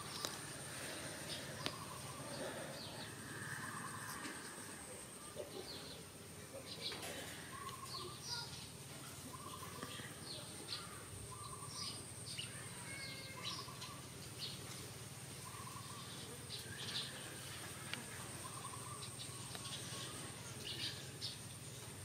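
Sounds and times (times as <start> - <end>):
birds chirping: 0.0 - 22.0
faint high-pitched whine: 0.0 - 22.0.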